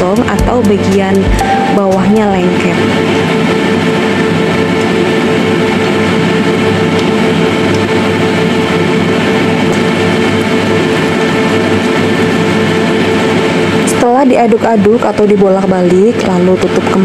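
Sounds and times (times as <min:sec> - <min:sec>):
induction cooktop humming: 0:00.0 - 0:17.0.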